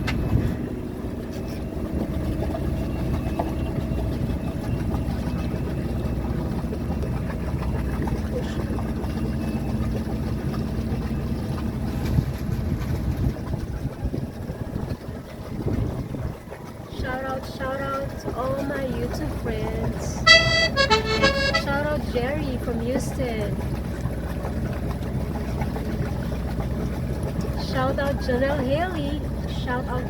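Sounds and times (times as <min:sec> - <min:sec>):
boat diesel engine droning: 0:00.0 - 0:14.8, 0:15.9 - 0:30.0.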